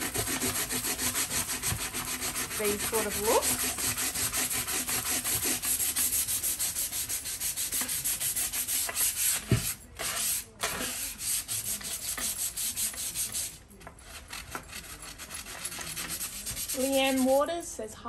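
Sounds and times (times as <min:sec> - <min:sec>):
sandpaper rubbing on wood: 0:00.0 - 0:17.4.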